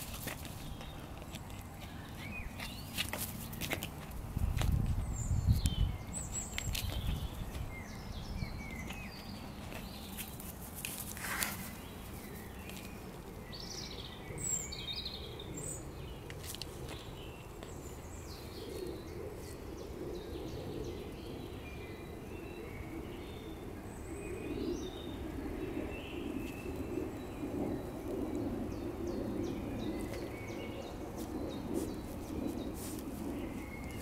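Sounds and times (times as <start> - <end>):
outdoor background noise: 0.0 - 34.0.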